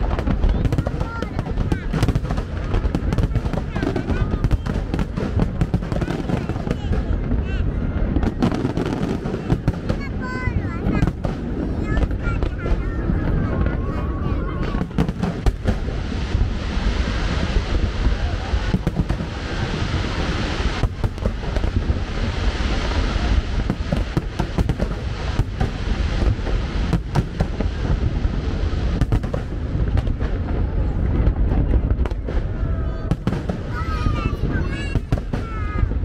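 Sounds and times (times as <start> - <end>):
fireworks exploding: 0.0 - 36.0
hiss and crackle: 0.0 - 36.0
low rumble: 6.4 - 36.0.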